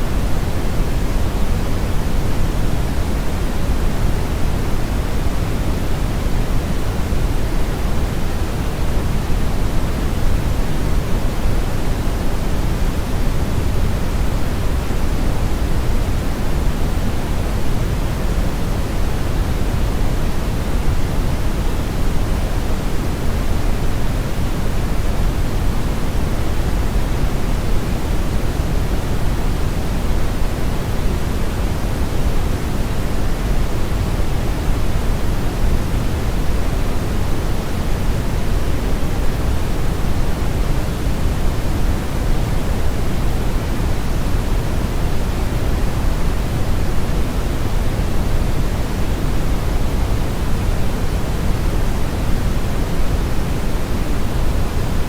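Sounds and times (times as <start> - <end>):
steady brown noise hiss: 0.0 - 55.0.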